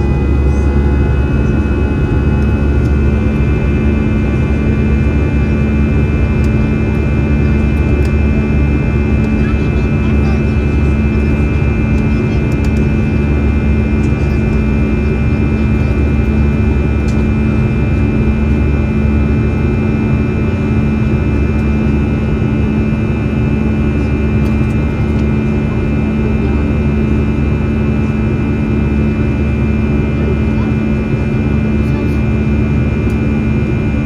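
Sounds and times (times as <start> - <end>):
jet engine cabin drone: 0.0 - 34.0.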